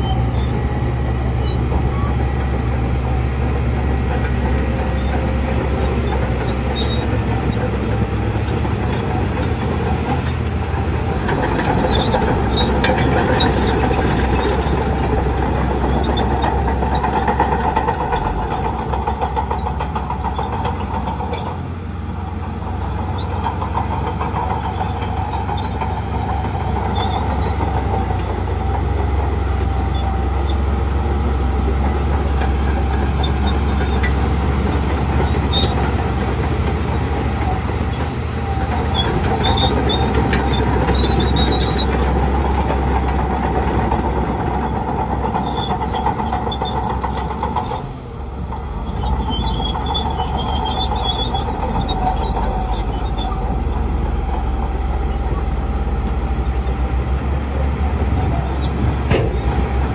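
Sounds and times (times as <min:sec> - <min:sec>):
bulldozer diesel engine running: 0:00.0 - 0:59.9
steel tracks rattling and squeaking: 0:00.0 - 0:59.9.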